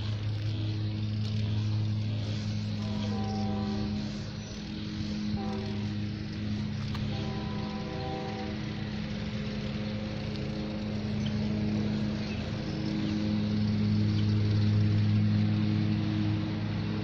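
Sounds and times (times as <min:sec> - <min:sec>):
motor engine droning: 0:00.0 - 0:17.0.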